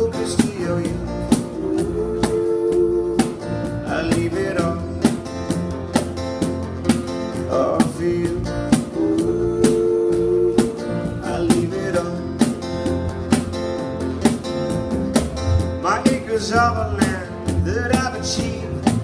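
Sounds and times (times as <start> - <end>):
acoustic guitar strumming: 0.0 - 19.0
cajon beat: 0.0 - 19.0.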